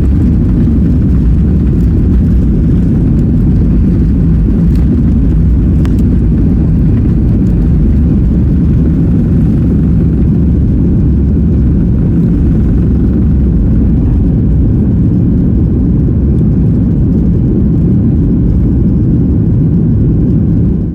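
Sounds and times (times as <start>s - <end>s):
jet engines rumbling: 0.0s - 20.9s.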